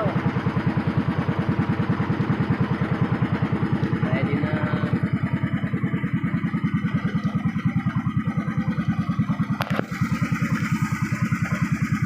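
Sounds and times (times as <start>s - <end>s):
boat engine putting: 0.0s - 12.0s.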